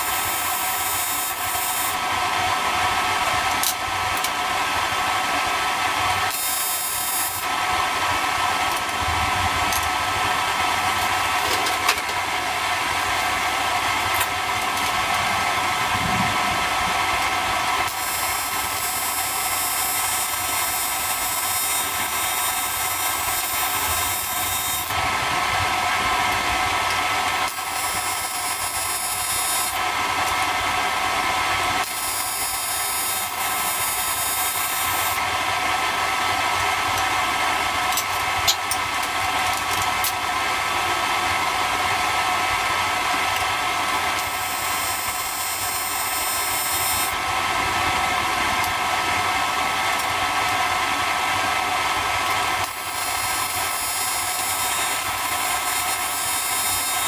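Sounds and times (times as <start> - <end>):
welding arc buzzing hiss: 0.0 - 57.0.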